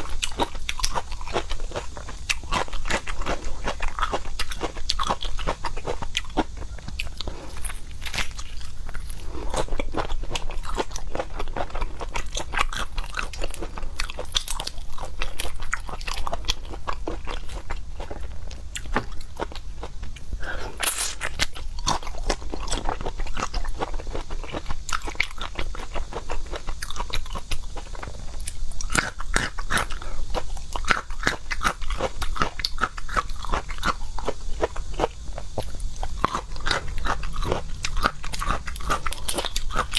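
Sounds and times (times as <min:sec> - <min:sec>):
chewing crunchy seafood: 0:00.0 - 0:39.9.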